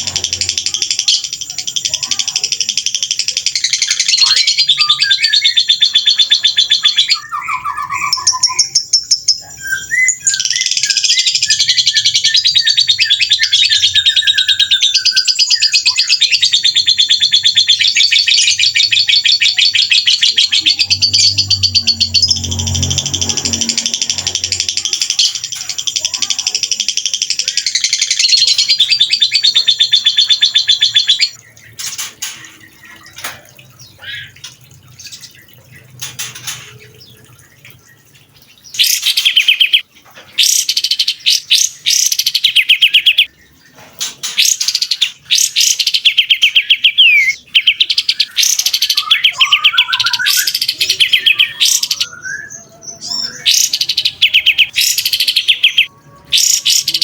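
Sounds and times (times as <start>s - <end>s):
songbird trilling: 0.0s - 37.3s, 38.6s - 43.4s, 44.0s - 57.0s
soft bird calls: 0.0s - 57.0s.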